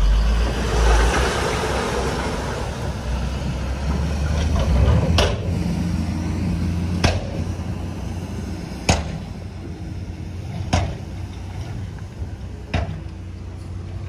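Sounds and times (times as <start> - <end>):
diesel machinery rumbling: 0.0 - 14.0.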